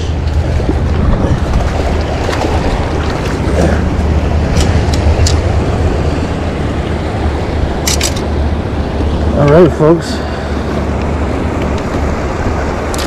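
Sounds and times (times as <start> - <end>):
river water flowing: 0.0 - 13.0
wind rumbling on microphone: 0.0 - 13.0.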